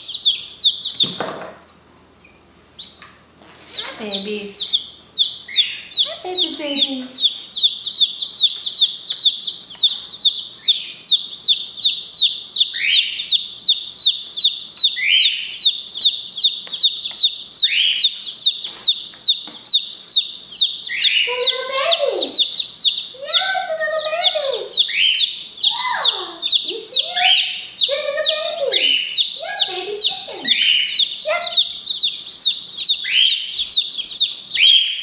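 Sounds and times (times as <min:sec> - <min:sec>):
lower falling calls: 0:00.0 - 0:01.2, 0:03.6 - 0:35.0
chick peeping loudly: 0:00.0 - 0:01.5, 0:02.2 - 0:35.0
chicks chirping: 0:00.0 - 0:35.0.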